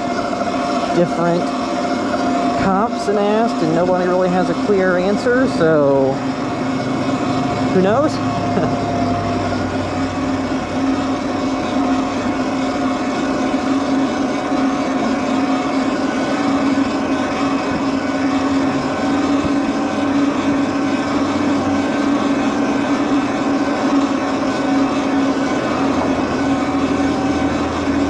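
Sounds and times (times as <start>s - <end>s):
electric bike motor whine: 0.0s - 28.0s
wind: 0.0s - 28.0s.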